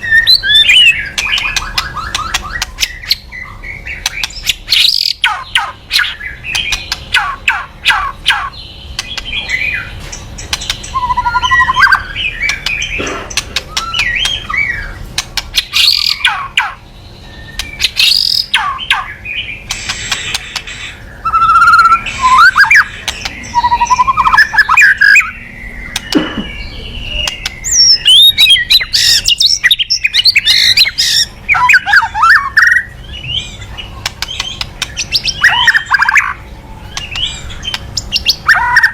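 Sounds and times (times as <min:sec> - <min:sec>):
bird singing with rattling clicks: 0:00.0 - 0:16.8, 0:17.4 - 0:38.9.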